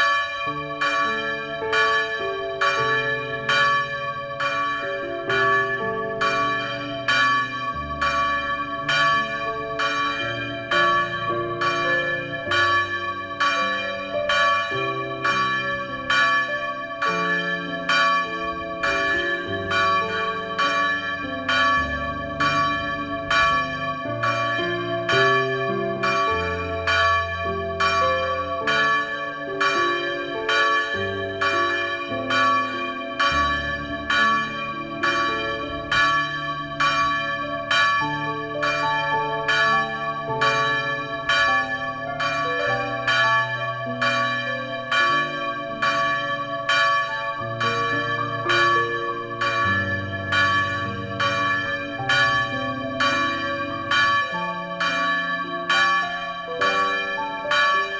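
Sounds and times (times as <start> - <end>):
church bells ringing: 0.0 - 57.9.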